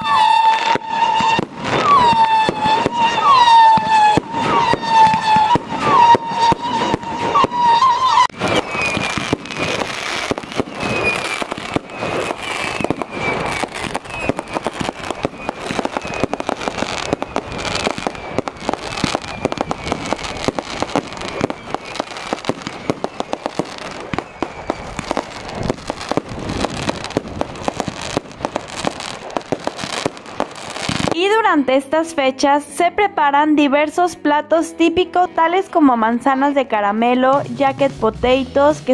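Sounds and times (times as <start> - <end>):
fireworks bangs and crackling: 0.0 - 31.8.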